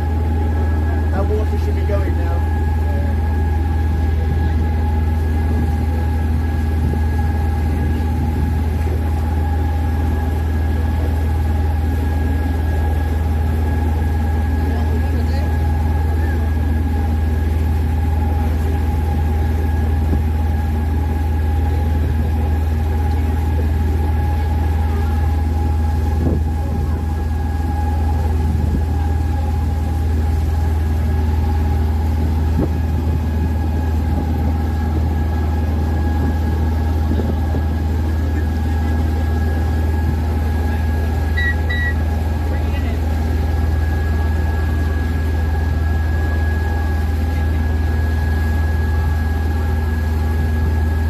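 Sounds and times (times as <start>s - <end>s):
boat engine drone: 0.0s - 51.0s.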